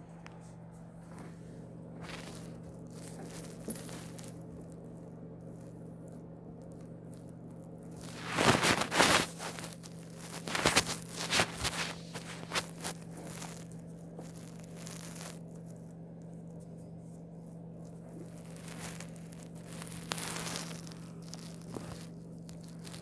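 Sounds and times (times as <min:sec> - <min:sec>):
rustling and scraping: 0:00.0 - 0:06.2, 0:06.8 - 0:23.0
low electrical hum: 0:00.0 - 0:23.0.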